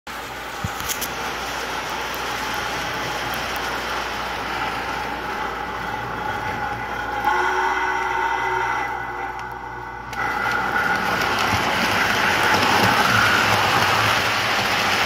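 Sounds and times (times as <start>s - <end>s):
model train steam sound effects: 0.1s - 15.0s
model train wheel and track noise: 0.1s - 15.0s.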